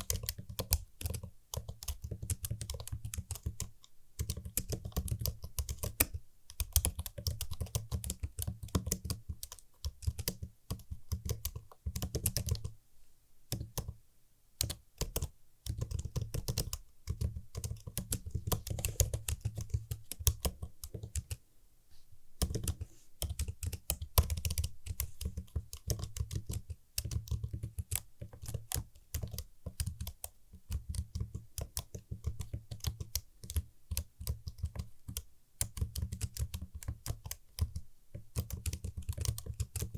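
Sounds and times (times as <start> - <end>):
fast typing on keyboard: 0.0 - 12.8, 13.5 - 14.0, 14.6 - 21.4, 22.4 - 39.9.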